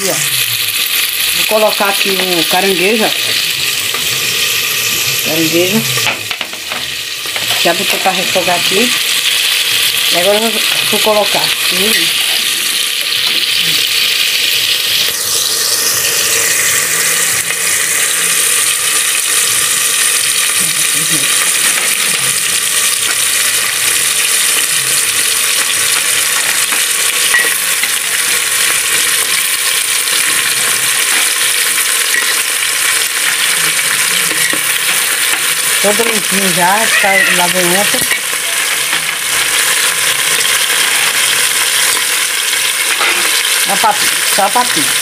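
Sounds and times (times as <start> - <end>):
crabs sizzling in hot oil: 0.0 - 45.0.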